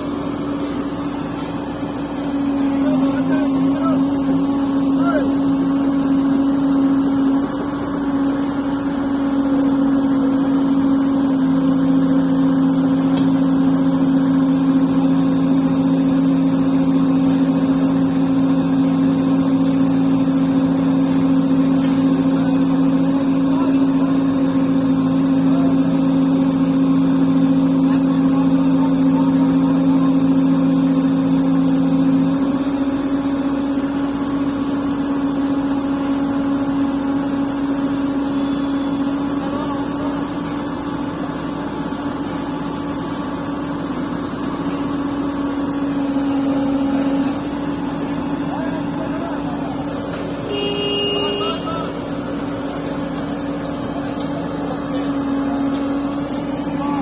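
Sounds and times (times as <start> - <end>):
construction machinery diesel engine: 0.0 - 57.0.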